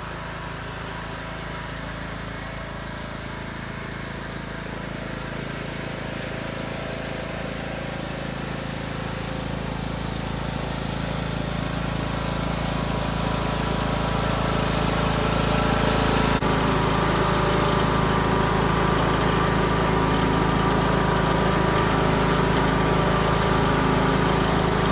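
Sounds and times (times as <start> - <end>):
riding lawn mower engine: 0.0 - 24.9.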